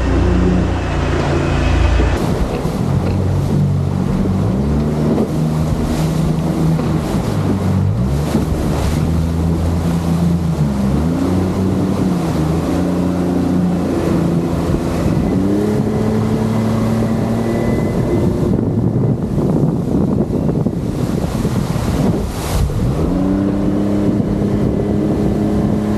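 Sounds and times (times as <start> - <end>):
boat motor running: 0.0 - 25.9
water rushing past hull: 0.0 - 25.9
wind on microphone: 0.0 - 25.9.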